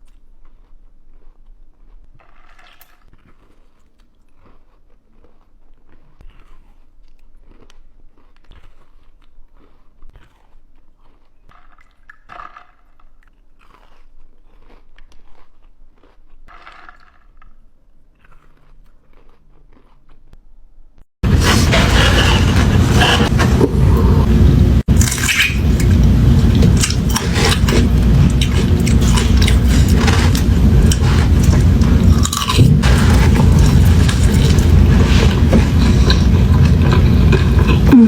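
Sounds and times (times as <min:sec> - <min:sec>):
crunchy food being chewed: 0:00.0 - 0:20.4, 0:24.8 - 0:38.0.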